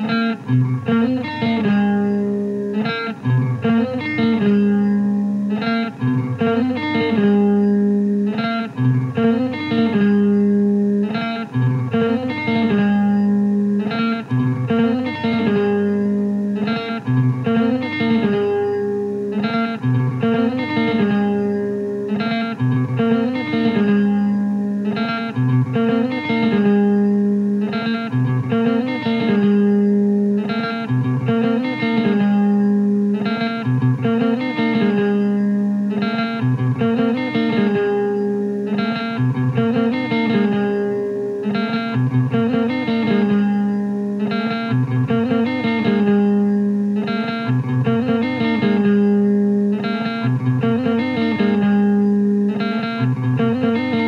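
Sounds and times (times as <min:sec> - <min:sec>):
guitar plucking looping figure: 0:00.0 - 0:54.0.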